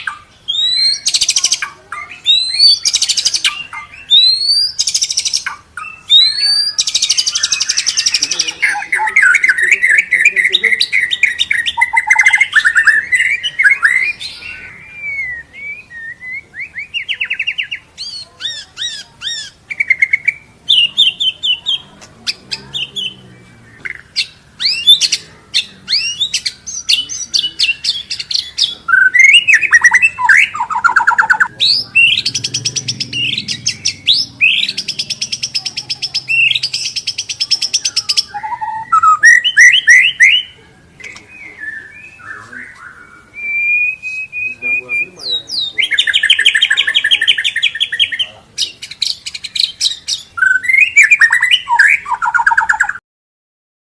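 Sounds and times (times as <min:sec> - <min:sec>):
bird singing varied song: 0:00.0 - 0:53.0.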